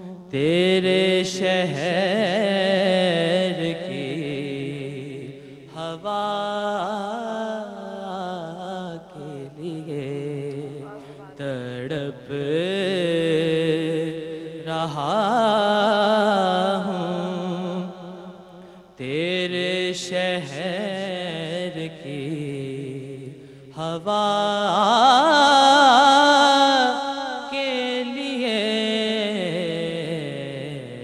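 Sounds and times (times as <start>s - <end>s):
man singing into microphone: 0.0s - 18.3s, 19.0s - 31.0s.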